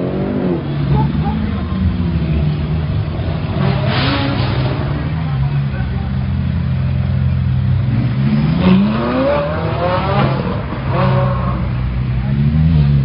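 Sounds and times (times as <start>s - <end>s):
sports car engines rumbling: 0.0s - 13.0s.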